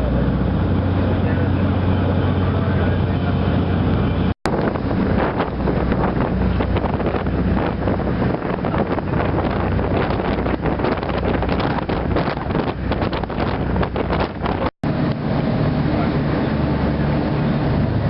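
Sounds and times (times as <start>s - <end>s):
boat engine droning: 0.0s - 18.0s
wind buffeting microphone: 0.0s - 18.0s.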